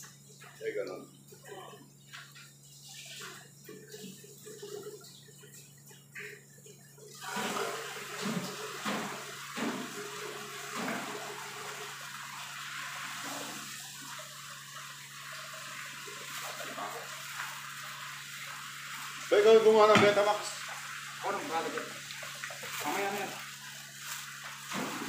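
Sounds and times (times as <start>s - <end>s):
water running: 0.0s - 25.0s.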